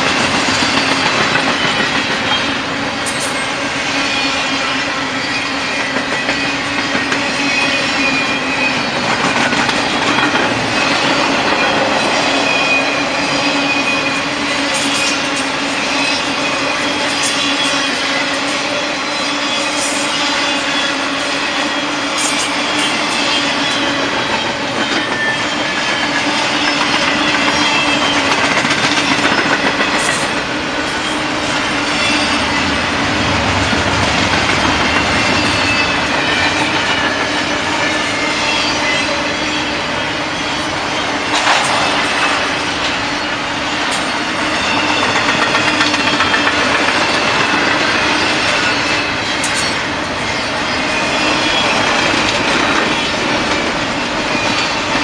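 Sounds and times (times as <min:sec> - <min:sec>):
freight train wheels clattering: 0:00.0 - 0:55.0
high wheel squeals: 0:00.3 - 0:33.0, 0:34.1 - 0:55.0.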